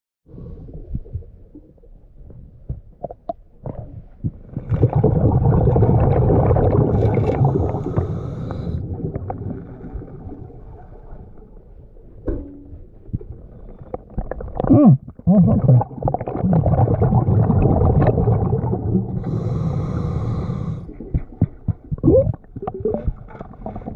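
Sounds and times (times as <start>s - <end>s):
exhaled bubbles rumbling underwater: 0.3s - 23.9s.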